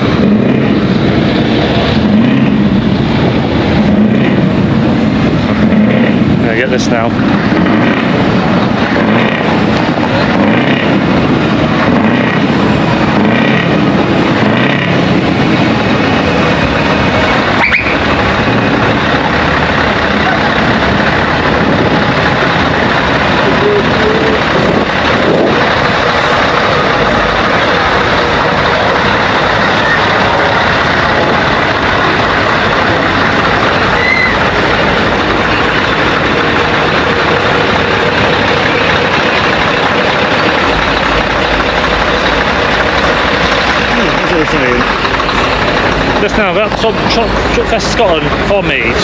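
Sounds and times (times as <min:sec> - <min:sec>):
heavy vehicle engines running: 0:00.0 - 0:49.0.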